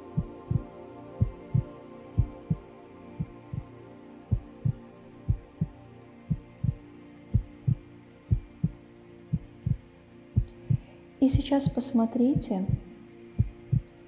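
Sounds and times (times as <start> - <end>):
steady low drone: 0.0 - 14.0
heartbeat thumps: 0.2 - 3.7, 4.3 - 14.0.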